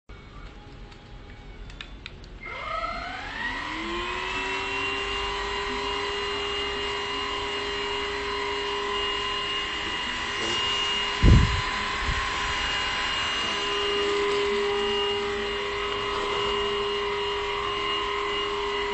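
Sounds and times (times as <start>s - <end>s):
vacuum cleaner motor whining: 2.4s - 18.9s.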